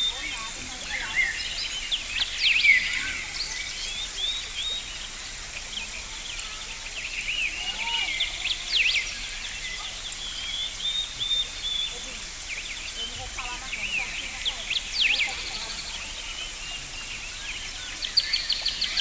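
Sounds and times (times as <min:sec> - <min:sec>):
birds chirping: 0:00.0 - 0:19.0
steady high hiss: 0:00.0 - 0:19.0.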